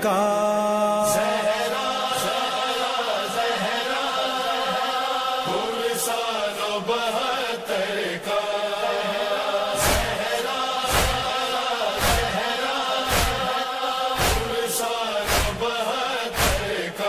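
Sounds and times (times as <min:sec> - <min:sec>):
wordless chant of held voices: 0:00.0 - 0:17.0.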